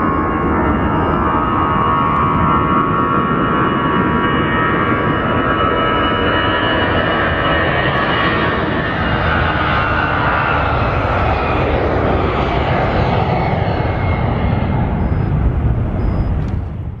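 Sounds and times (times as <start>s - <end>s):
jet engines roaring with whine: 0.0s - 17.0s.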